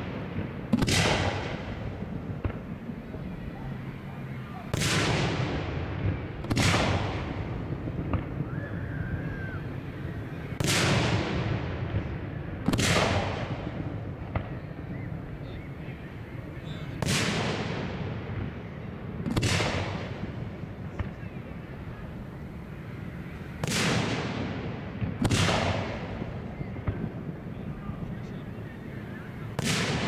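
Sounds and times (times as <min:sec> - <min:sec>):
firework shells booming: 0:00.0 - 0:15.4, 0:16.1 - 0:30.0.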